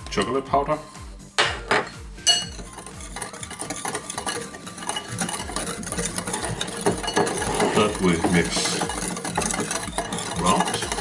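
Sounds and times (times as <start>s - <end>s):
stirring dry ingredients in bowl: 0.0s - 11.0s
spoon clinking glass bowl: 1.4s - 11.0s.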